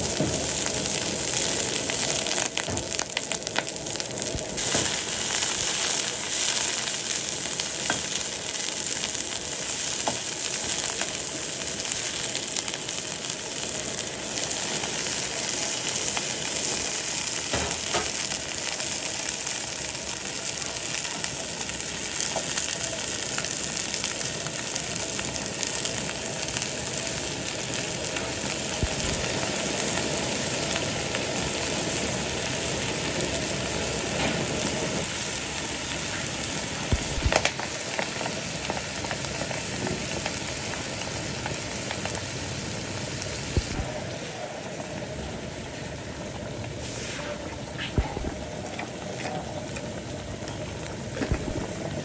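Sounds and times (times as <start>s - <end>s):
food frying in hot oil: 0.0s - 52.0s.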